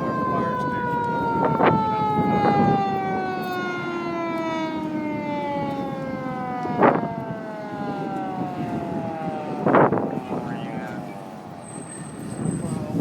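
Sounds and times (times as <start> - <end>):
fire truck siren winding down: 0.0 - 13.0.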